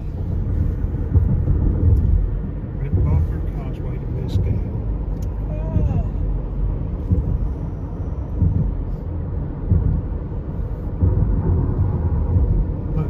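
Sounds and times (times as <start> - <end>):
car cabin road rumble: 0.0 - 13.0
low thumps: 0.0 - 13.0.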